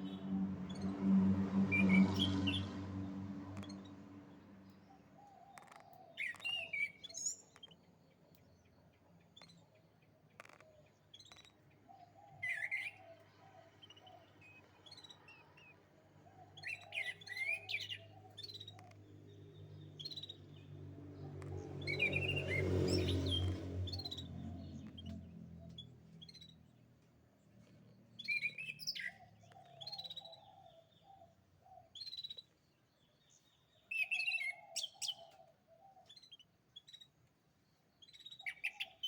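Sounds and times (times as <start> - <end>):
canary chirps and trills: 0.0 - 39.0.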